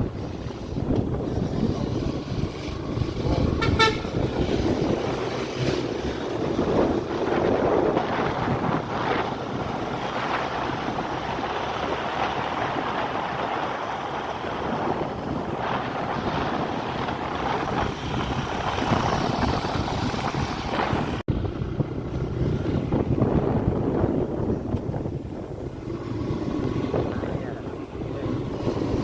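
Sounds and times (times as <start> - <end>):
road and vehicle noise: 0.0 - 29.0
wind rushing over microphone: 0.0 - 29.0.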